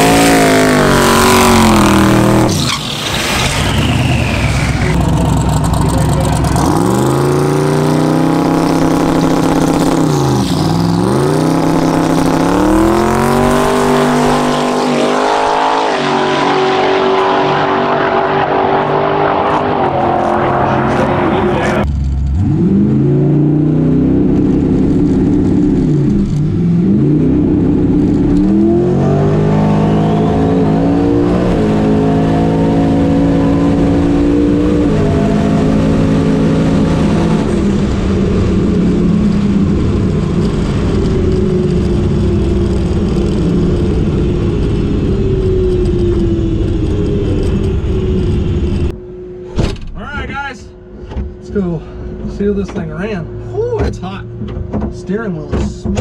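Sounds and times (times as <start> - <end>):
car engine revving through gears: 0.0 - 49.0.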